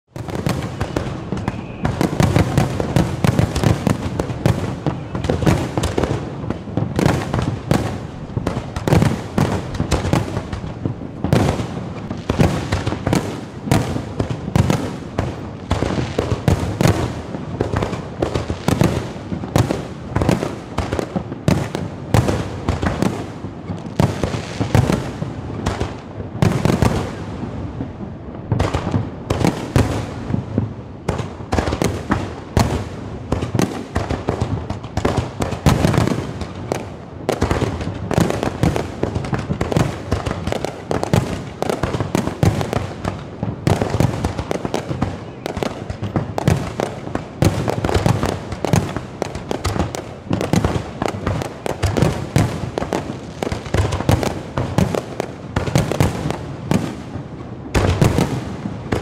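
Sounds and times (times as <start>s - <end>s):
fireworks bangs and crackles: 0.1s - 59.0s.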